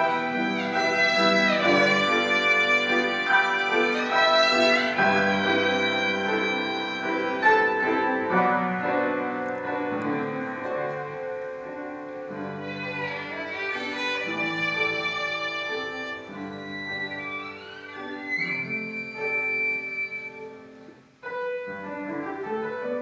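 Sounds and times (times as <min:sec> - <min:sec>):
piano accompaniment: 0:00.0 - 0:23.0
violin melody: 0:00.0 - 0:23.0.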